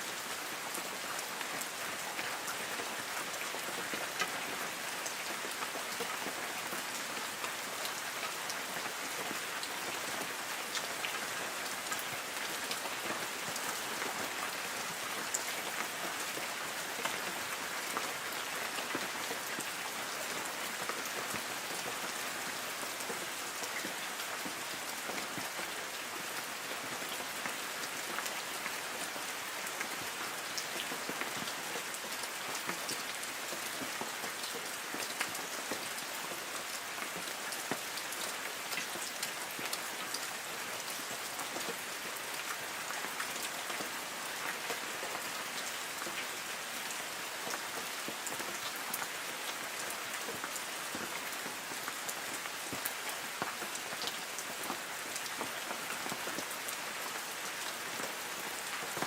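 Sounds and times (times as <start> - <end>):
light rain pattering on trees: 0.0 - 59.0.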